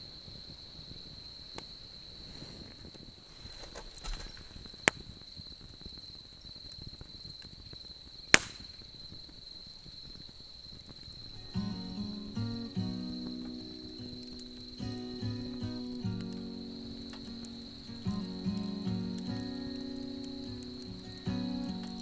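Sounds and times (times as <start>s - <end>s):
insects trilling: 0.0s - 22.0s
campfire pops: 0.3s - 22.0s.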